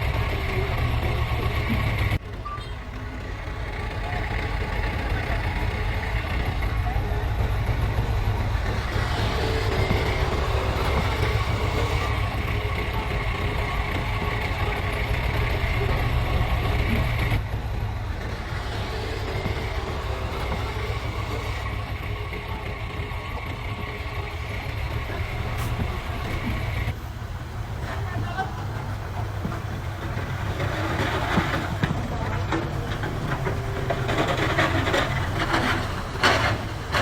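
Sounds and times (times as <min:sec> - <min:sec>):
diesel machinery rumbling: 0:00.0 - 0:37.0.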